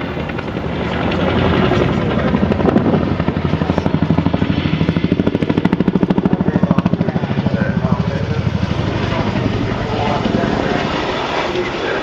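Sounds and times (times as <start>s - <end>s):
helicopter rotor blade slap: 0.0s - 12.0s.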